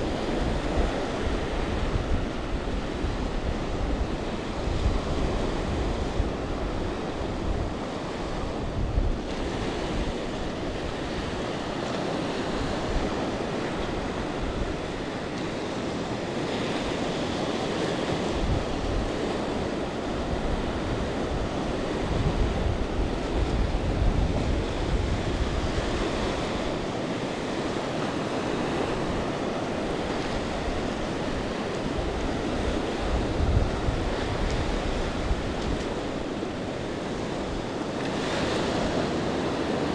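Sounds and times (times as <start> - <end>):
ocean surf washing over sand: 0.0 - 39.9
wind buffeting microphone: 0.0 - 39.9.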